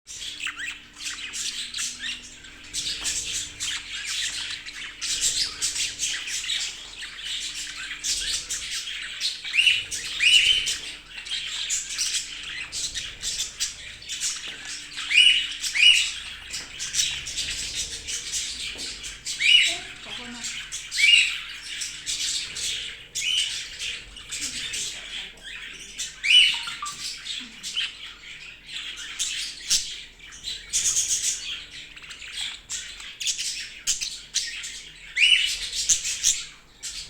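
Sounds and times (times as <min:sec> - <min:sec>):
budgerigars chattering and squawking: 0:00.1 - 0:37.0.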